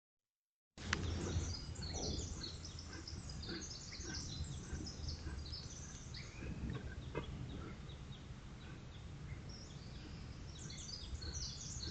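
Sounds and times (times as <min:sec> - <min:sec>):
birds chirping and singing: 0:00.8 - 0:11.9
low background rumble: 0:00.8 - 0:11.9.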